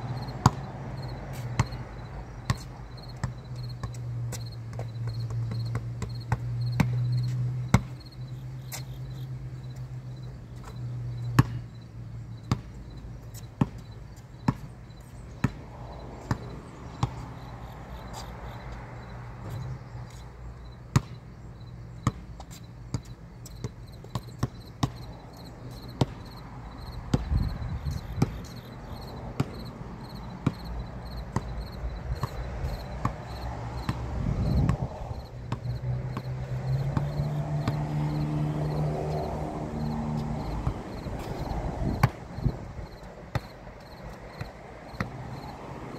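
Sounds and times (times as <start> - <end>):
basketball bouncing on concrete: 0.0 - 45.9.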